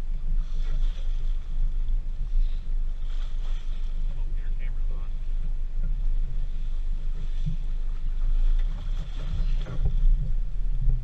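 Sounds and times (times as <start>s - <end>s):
steady low rumble: 0.0s - 11.0s
water splashing and sloshing: 0.0s - 11.0s.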